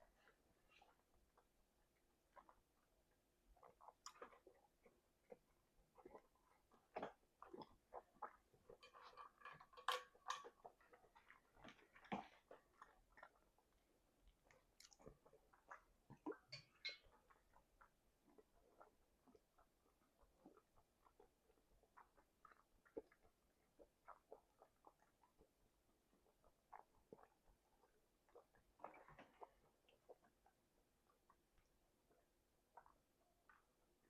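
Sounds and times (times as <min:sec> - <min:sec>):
wet chewing mouth clicks: 0:00.1 - 0:34.0.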